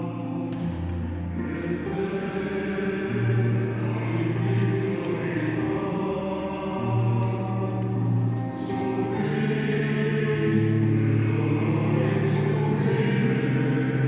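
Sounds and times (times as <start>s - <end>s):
mixed choir singing held chords: 0.0s - 14.0s.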